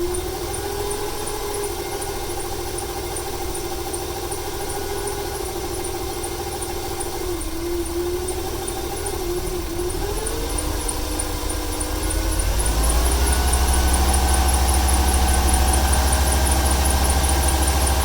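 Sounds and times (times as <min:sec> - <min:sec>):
engine whine: 0:00.0 - 0:18.0
misfiring engine idling: 0:00.0 - 0:18.0.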